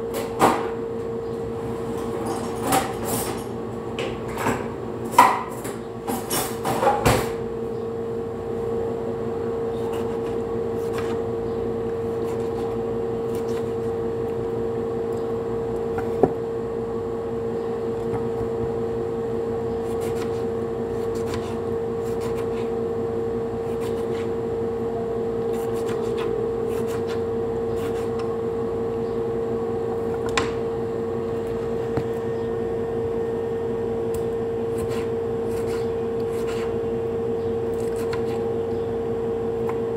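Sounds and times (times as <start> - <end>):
electric appliance hum: 0.0 - 39.9.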